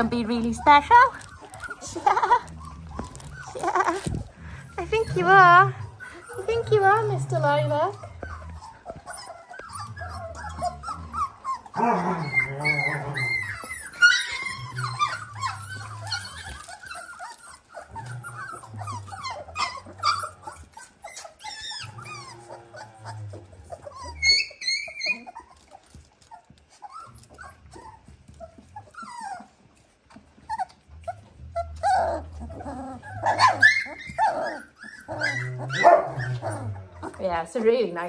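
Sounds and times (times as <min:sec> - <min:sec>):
puppies squeaking and whimpering: 0:00.0 - 0:38.0.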